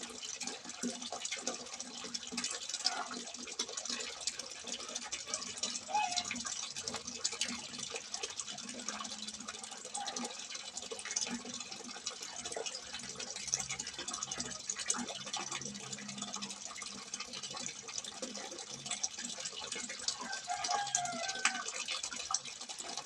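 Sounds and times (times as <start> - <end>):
water pouring from spout: 0.0 - 23.0.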